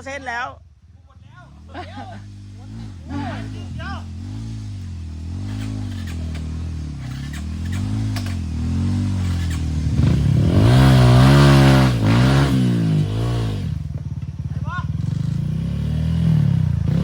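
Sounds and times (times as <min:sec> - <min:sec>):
dirt bike engine revving: 0:01.4 - 0:17.0.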